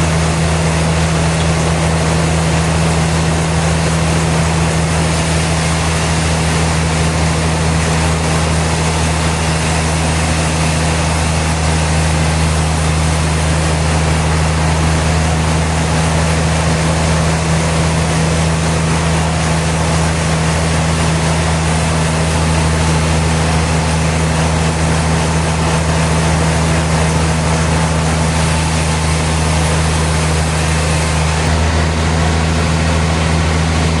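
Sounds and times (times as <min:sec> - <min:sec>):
machinery whirring and hissing: 0:00.0 - 0:34.0
motor hum: 0:00.0 - 0:34.0.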